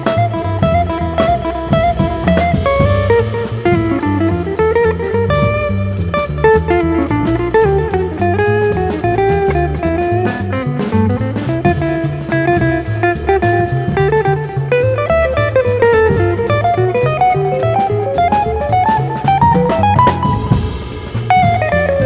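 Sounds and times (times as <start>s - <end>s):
drum kit with cymbals: 0.0s - 22.0s
electric guitar melody: 0.0s - 22.0s
plucked double bass: 0.0s - 22.0s.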